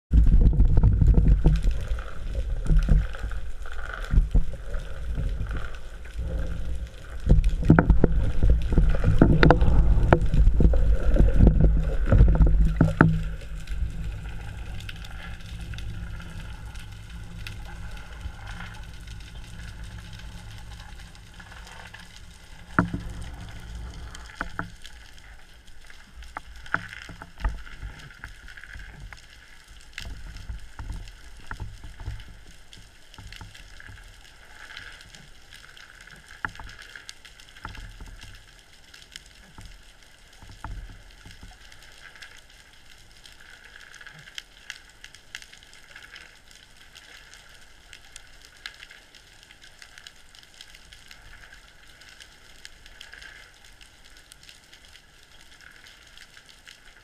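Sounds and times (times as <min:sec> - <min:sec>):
underwater rumbling water noise: 0:00.1 - 0:57.0.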